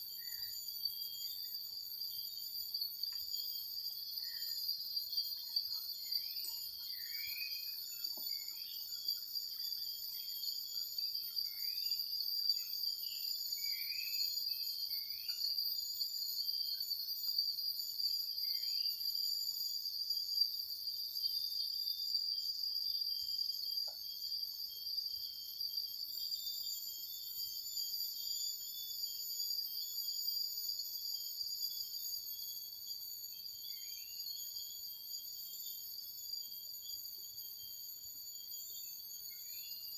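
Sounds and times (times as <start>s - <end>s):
insects trilling: 0.0s - 39.9s
short insect chirps: 0.0s - 39.9s.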